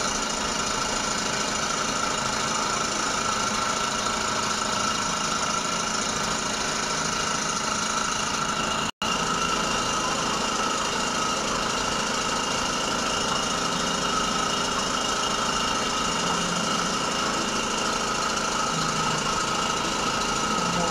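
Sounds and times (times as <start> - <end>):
electric motor humming: 0.0 - 20.9.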